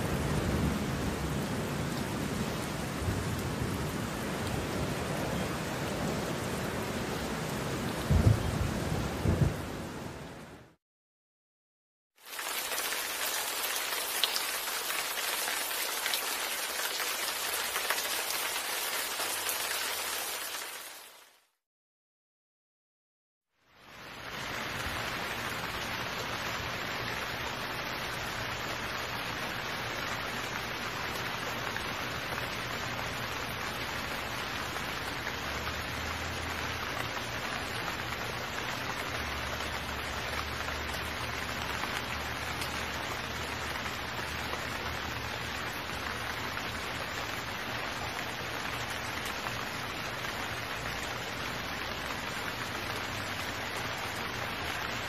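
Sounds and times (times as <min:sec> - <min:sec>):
steady rain falling: 0:00.0 - 0:10.8, 0:12.2 - 0:21.6, 0:23.6 - 0:55.0.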